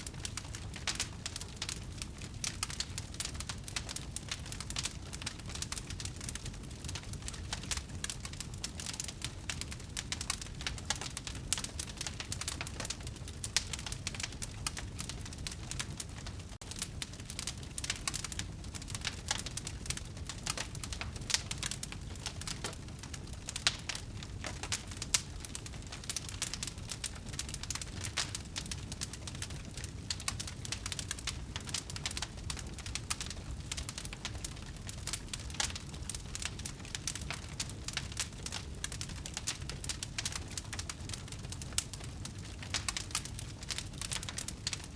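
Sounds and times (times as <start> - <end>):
fire crackling in fireplace: 0.0 - 44.9.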